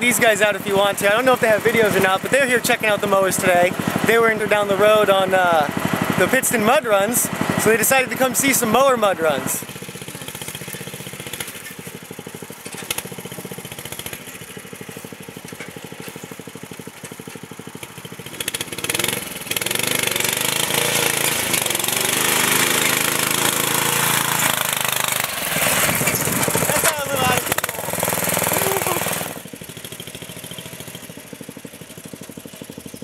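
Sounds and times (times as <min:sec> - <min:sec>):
lawn mower engine idling and revving: 0:00.0 - 0:33.0.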